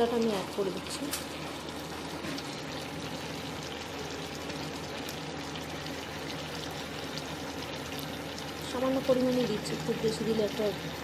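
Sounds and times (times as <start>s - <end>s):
curry gravy bubbling in a pan: 0.0s - 11.0s.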